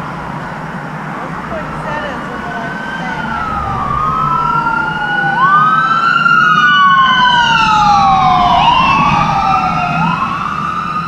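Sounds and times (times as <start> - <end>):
emergency sirens wailing: 0.0 - 11.0.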